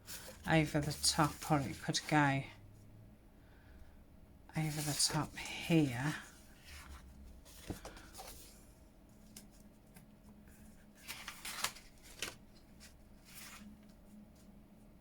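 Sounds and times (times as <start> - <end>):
paper rustling: 0.0 - 2.2, 4.6 - 14.5.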